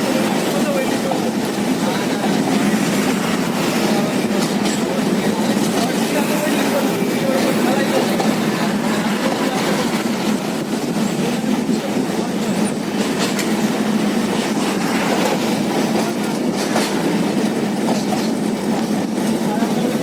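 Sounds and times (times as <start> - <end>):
train wheels rumbling on rails: 0.0 - 20.0
wheels clicking over rail joints: 0.0 - 20.0.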